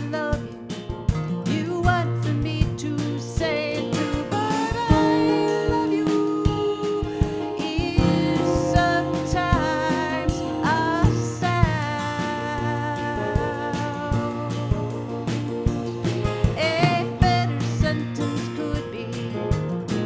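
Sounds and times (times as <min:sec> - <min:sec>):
woman singing: 0:00.0 - 0:19.7
acoustic guitars picked and strummed: 0:00.0 - 0:20.0.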